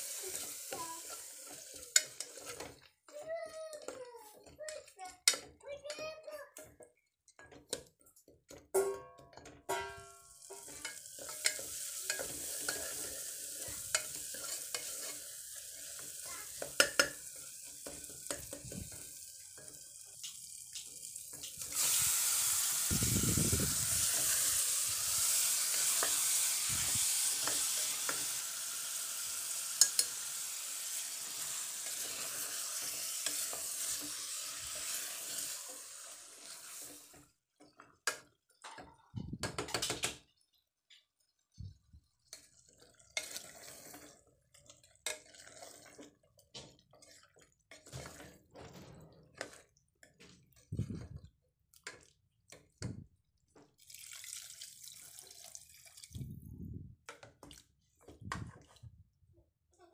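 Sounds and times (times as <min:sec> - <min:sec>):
wooden spatula stirring and scraping: 0:00.0 - 0:22.0, 0:23.3 - 0:28.4, 0:30.8 - 0:39.7, 0:41.3 - 0:53.8, 0:57.0 - 0:59.2
curry sizzling in a pot: 0:00.0 - 0:38.6, 0:40.3 - 0:56.1.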